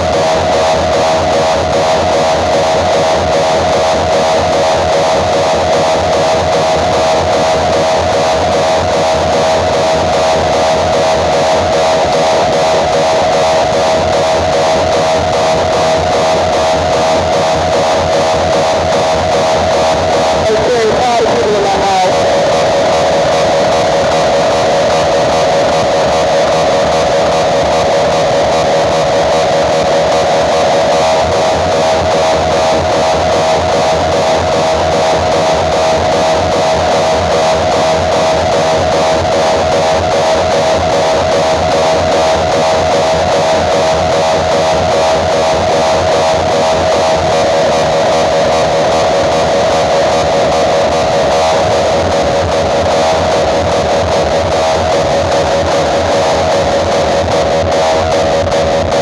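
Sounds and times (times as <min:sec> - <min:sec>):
loud rock music over speakers: 0:00.0 - 0:59.0.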